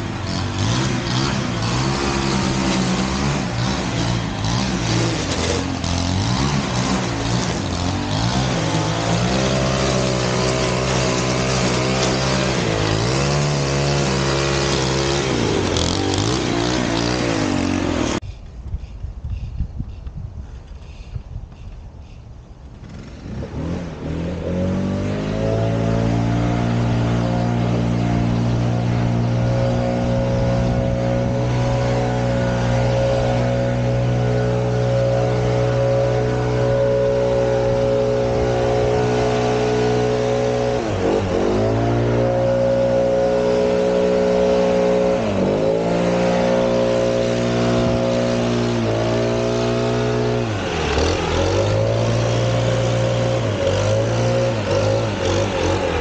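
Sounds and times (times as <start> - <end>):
leaf blower engine revving: 0.0 - 18.2, 22.8 - 56.0.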